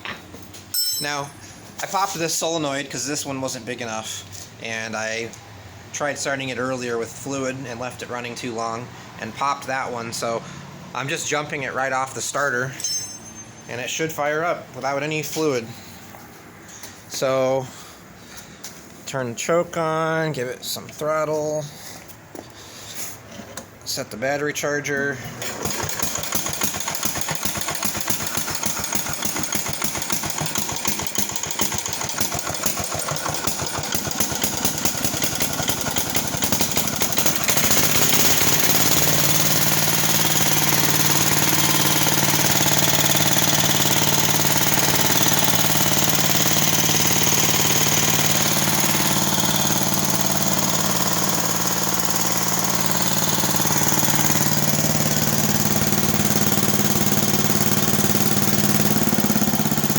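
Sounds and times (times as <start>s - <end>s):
tractor engine cranking and running: 0.0s - 15.8s, 24.6s - 59.9s.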